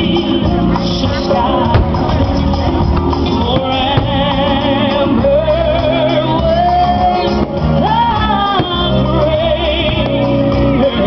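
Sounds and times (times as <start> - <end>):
sustained bass: 0.0 - 11.0.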